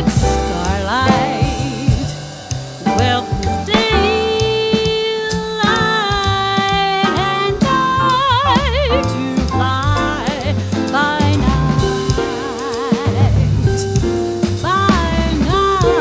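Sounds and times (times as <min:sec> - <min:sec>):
jazz band playing: 0:00.0 - 0:16.0.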